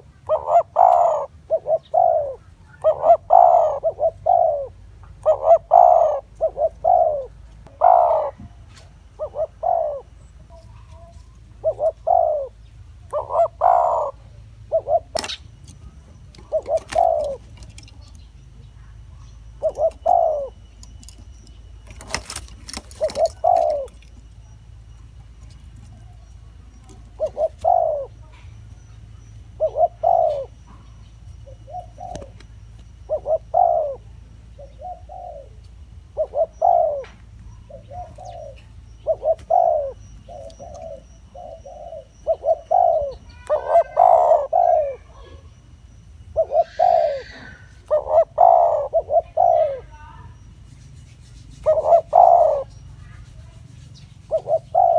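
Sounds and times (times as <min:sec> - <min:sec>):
doves cooing: 0:00.0 - 0:54.9.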